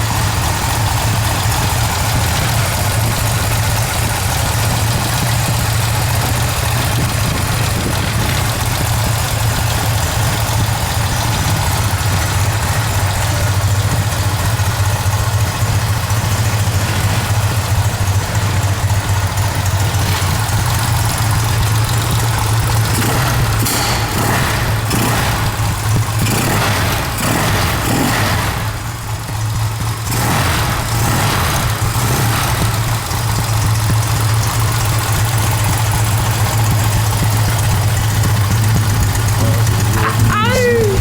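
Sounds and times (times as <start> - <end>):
motorcycle engine idling: 0.0 - 41.0.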